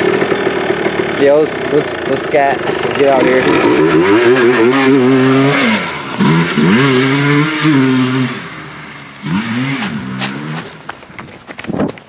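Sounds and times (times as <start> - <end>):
atv engine revving: 0.0 - 11.4.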